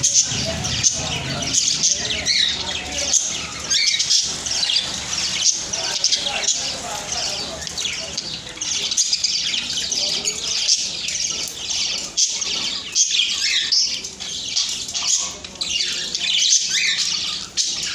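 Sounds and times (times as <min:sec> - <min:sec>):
budgerigars chirping: 0:00.0 - 0:17.9.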